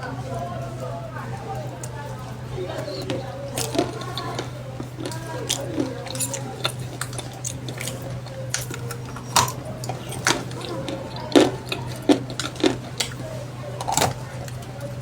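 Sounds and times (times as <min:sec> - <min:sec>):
steady low hum: 0:00.0 - 0:15.0
crisp crunches and clicks: 0:02.6 - 0:15.0.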